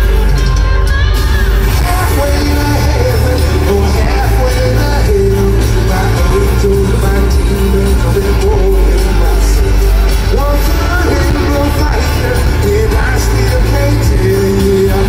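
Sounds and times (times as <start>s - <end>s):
deep steady bass: 0.0s - 15.0s
guitar: 0.0s - 15.0s
keyboard: 0.0s - 15.0s
person singing: 0.0s - 15.0s.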